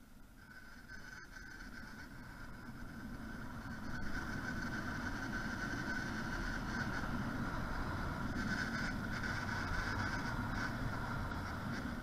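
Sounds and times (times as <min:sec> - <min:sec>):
high whine: 0:00.0 - 0:12.0
two-stroke engine running: 0:00.5 - 0:12.0.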